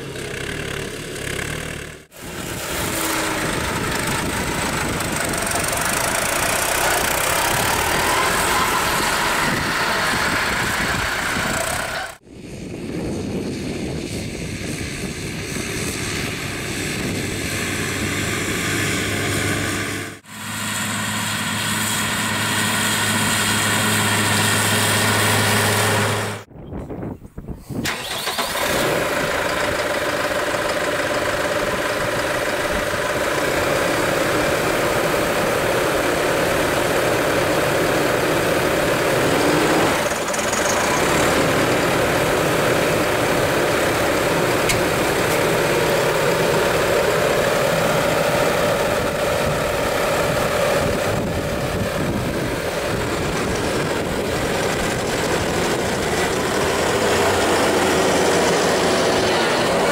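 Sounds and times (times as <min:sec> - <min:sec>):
tractor diesel engine running: 0:00.0 - 0:12.2, 0:15.0 - 0:26.5, 0:27.8 - 0:59.9.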